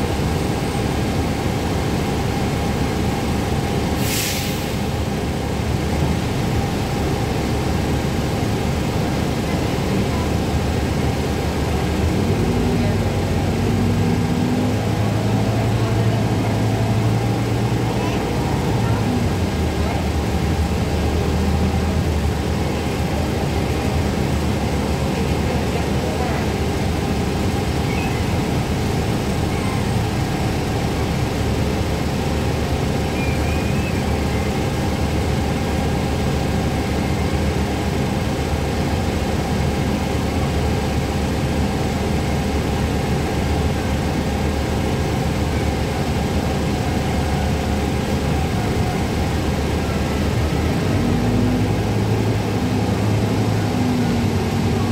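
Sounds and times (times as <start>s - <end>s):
bus engine running: 0.0s - 54.9s
road noise: 0.0s - 54.9s.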